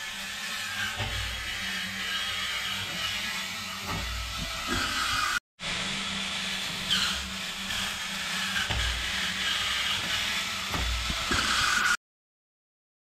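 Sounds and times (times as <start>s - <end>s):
small gear motors humming: 0.0s - 12.0s.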